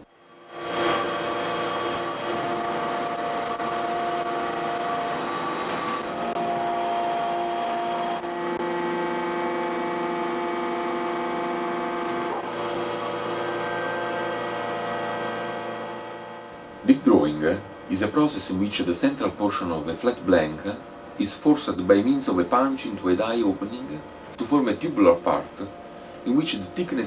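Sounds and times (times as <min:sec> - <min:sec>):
press machine hum: 0:00.0 - 0:27.0
whining machine tones: 0:00.0 - 0:27.0.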